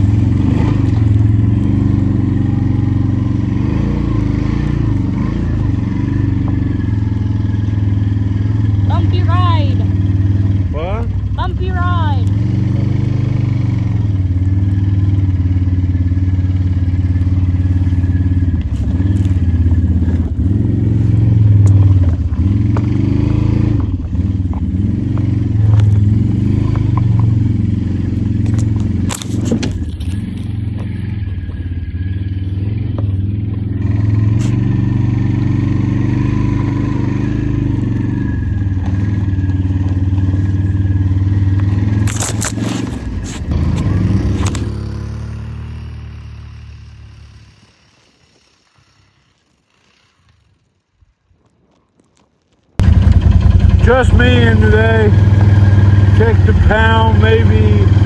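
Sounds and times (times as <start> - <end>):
atv engine revving: 0.0 - 50.6, 52.8 - 58.0.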